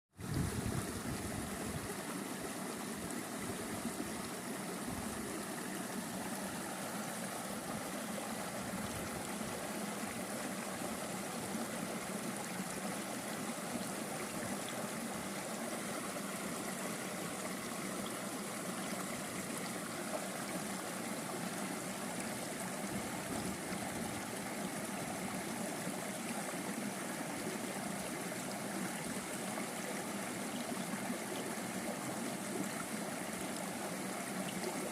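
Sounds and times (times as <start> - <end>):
stream water babbling: 0.2 - 34.9.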